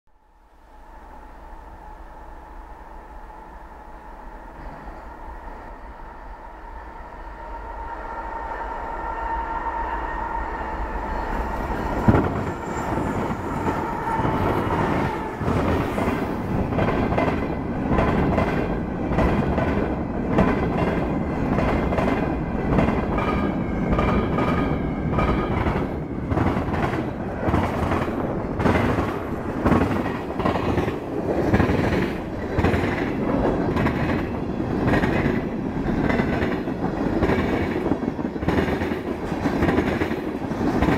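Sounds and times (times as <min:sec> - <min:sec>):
diesel locomotive approaching: 0:00.2 - 0:40.9.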